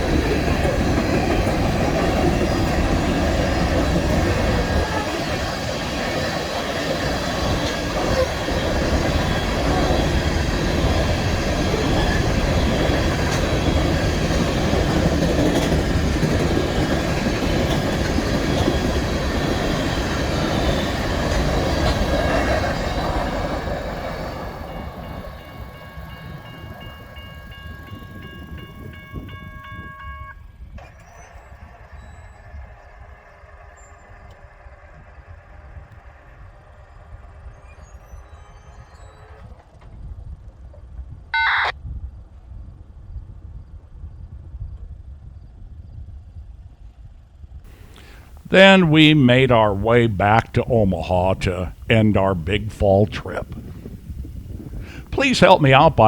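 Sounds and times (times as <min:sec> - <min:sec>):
train wheels rumbling on rail: 0:00.0 - 0:41.2, 0:42.2 - 0:56.0.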